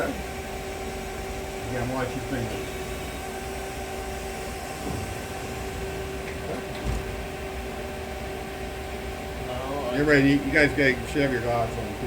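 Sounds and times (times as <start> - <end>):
machine shop equipment hum: 0.0 - 12.0.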